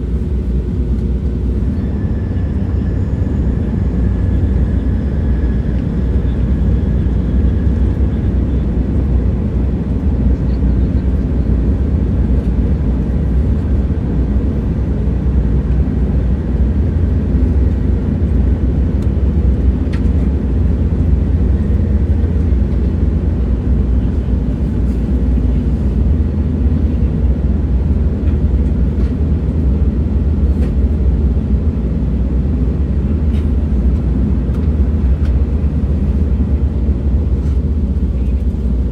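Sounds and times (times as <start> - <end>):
moving train rumble: 0.0 - 38.9.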